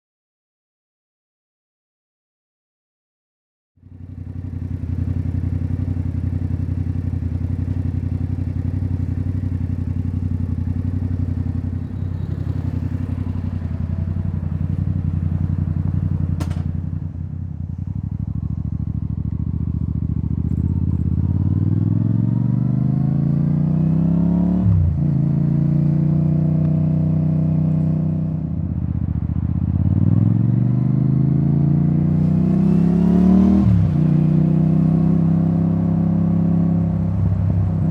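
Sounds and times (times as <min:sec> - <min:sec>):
motorcycle engine revving: 0:03.8 - 0:37.9.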